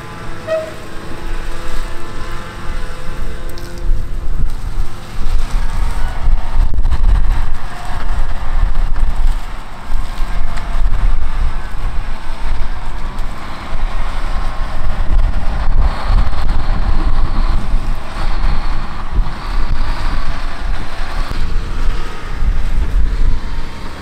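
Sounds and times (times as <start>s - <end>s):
heavy farm machinery running: 0.0s - 24.0s
wind buffeting microphone: 0.0s - 24.0s.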